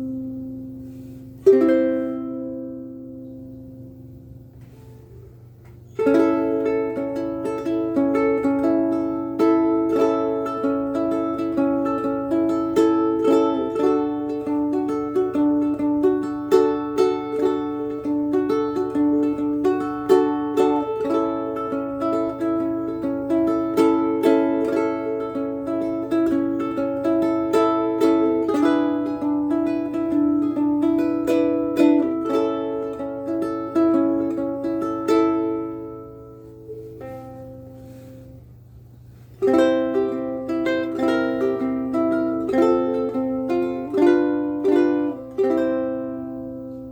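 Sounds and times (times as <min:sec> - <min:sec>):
ukulele melody: 0:00.0 - 0:46.9.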